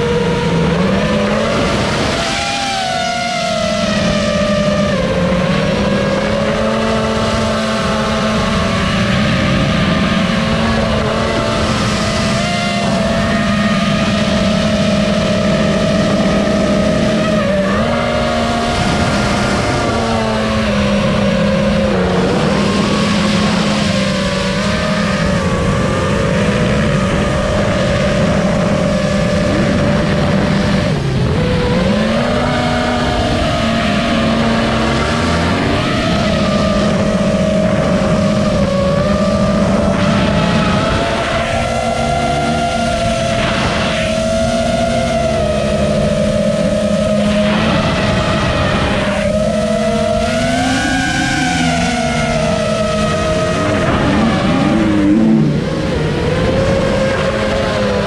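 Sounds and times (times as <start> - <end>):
quadcopter motors whining: 0.0 - 58.0.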